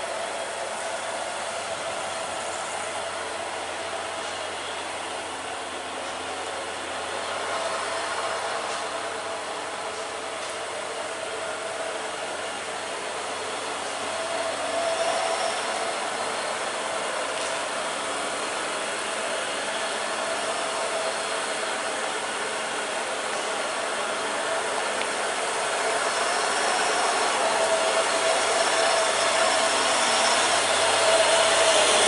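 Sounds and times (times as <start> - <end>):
heavy truck engine running: 0.0 - 32.0.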